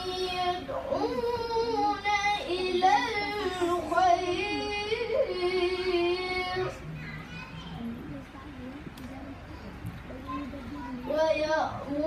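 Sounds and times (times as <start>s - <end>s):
boy chanting recitation: 0.0s - 12.0s.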